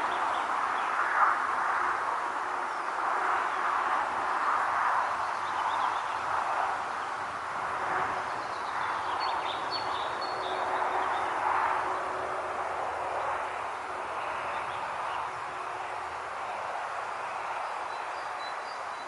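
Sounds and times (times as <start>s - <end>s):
wind rustling through foliage: 0.0s - 19.0s.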